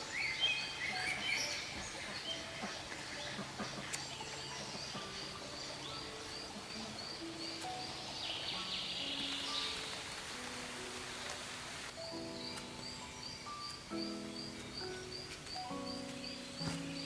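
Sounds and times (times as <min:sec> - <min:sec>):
other birds chirping: 0:00.0 - 0:10.2, 0:11.0 - 0:17.0.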